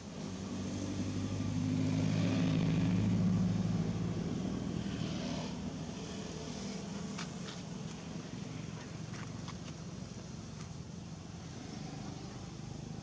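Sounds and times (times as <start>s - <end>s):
passing vehicle engine hum: 0.0s - 13.0s.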